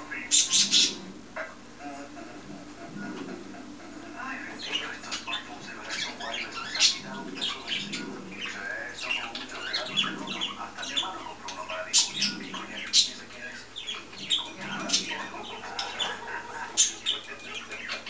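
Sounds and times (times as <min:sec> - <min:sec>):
budgerigars chattering and warbling: 0:00.0 - 0:18.0.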